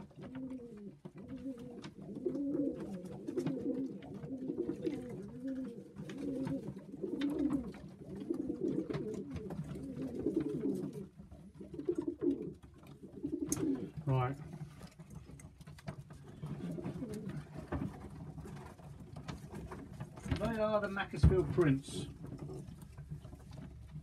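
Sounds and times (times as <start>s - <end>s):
pigeons cooing: 0.0s - 20.3s, 22.1s - 24.0s.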